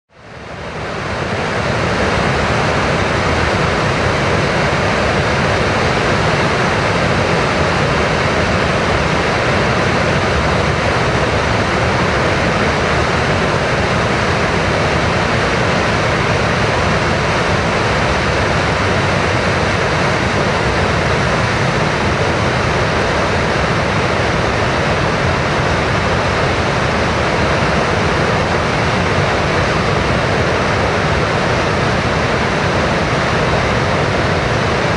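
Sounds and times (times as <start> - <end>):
rushing water roar: 0.1 - 34.9.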